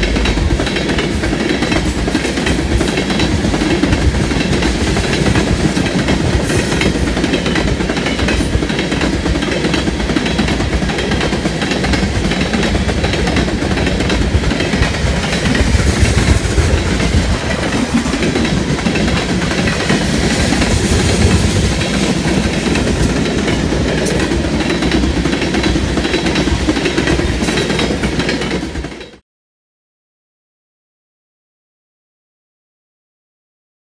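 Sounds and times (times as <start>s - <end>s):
freight train wheels rumbling on rail: 0.0s - 29.2s
sharp rail clicks: 0.0s - 29.2s.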